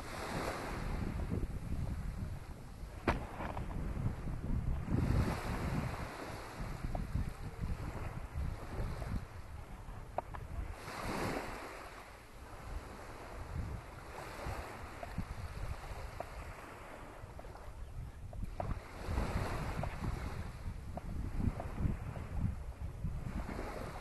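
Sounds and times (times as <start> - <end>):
small waves washing on shore: 0.0 - 24.0
wind buffeting microphone: 0.0 - 24.0.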